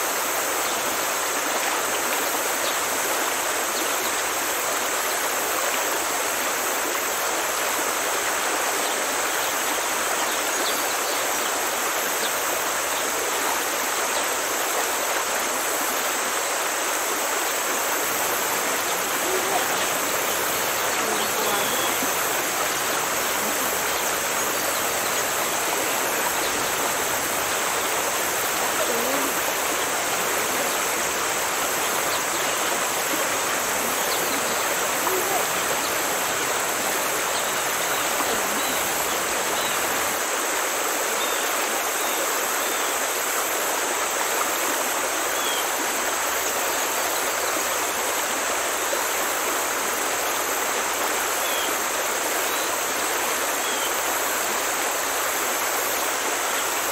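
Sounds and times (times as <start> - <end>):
rushing water: 0.0 - 56.9.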